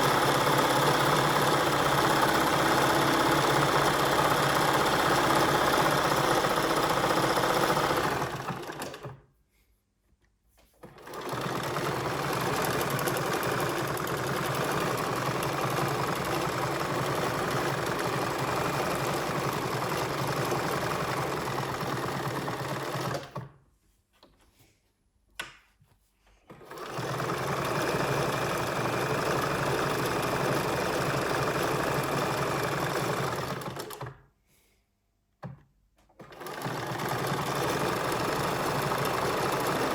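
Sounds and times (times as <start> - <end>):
sewing machine running: 0.0 - 9.2, 10.8 - 23.5, 26.6 - 34.2, 36.2 - 39.9.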